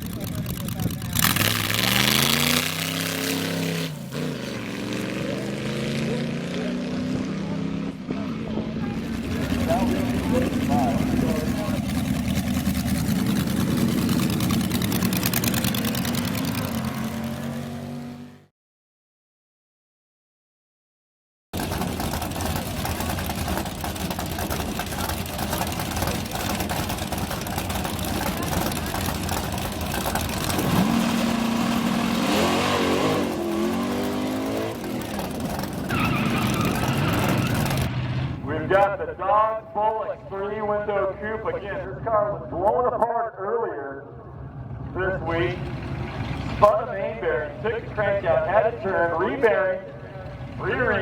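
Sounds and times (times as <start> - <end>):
drag car engine running: 0.0 - 17.8, 21.6 - 42.6, 44.1 - 51.0.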